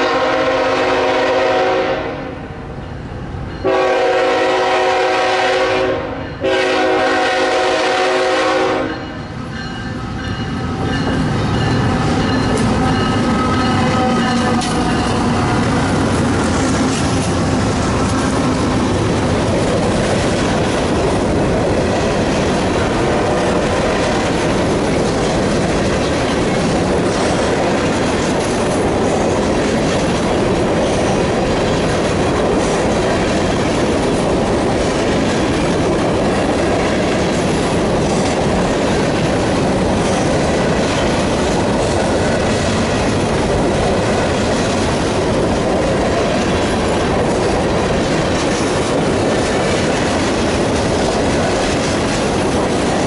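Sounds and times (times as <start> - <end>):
diesel locomotive engine drone: 0.0 - 53.0
freight train wheels rumbling: 0.0 - 53.0.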